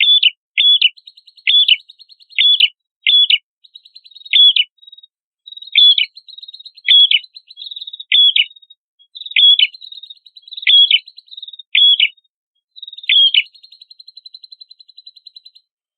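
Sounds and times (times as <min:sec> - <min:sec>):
songbird chirps and trills: 0:00.0 - 0:15.7.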